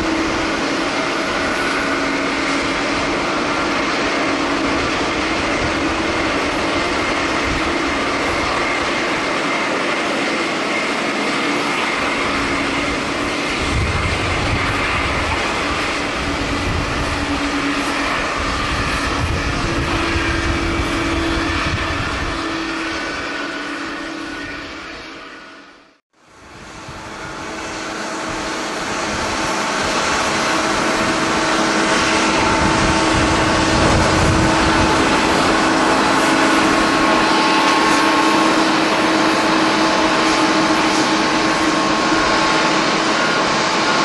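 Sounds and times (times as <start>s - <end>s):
wind buffeting microphone: 0.0s - 25.2s, 26.3s - 44.0s
jet engine noise: 0.0s - 44.0s.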